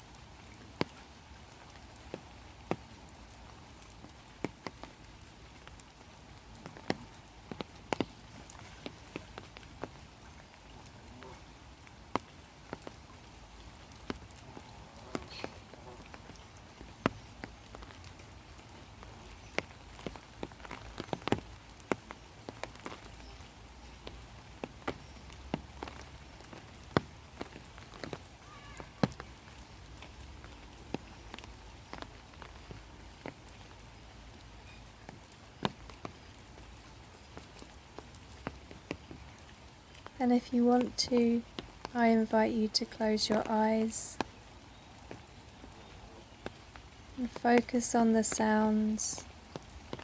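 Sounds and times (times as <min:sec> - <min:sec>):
raindrops ticking: 0:00.0 - 0:50.0
soft rain hiss: 0:00.0 - 0:50.0.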